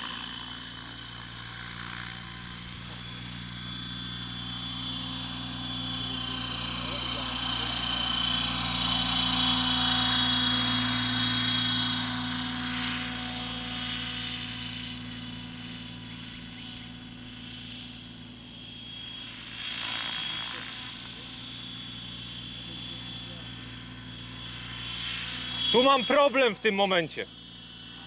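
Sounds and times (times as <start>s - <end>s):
model helicopter rotor whine: 0.0s - 28.0s.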